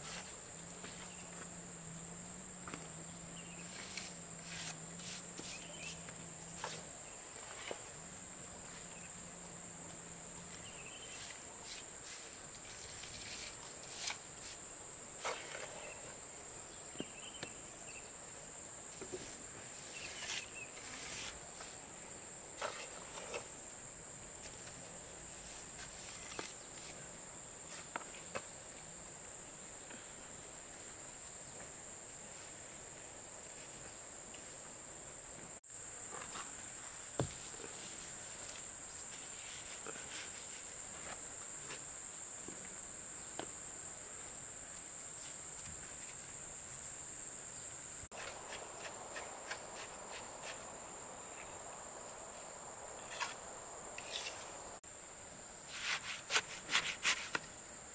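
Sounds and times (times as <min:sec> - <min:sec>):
insects droning: 0:00.0 - 0:57.9.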